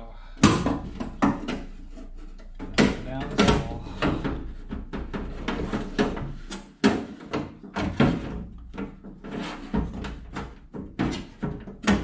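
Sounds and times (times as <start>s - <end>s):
metal clanking and scraping: 0.8s - 12.0s.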